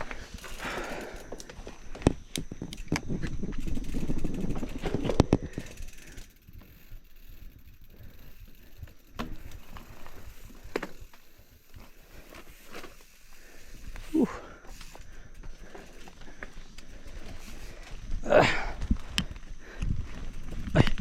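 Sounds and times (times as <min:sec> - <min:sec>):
mountain bike rattling on trail: 0:00.0 - 0:21.0.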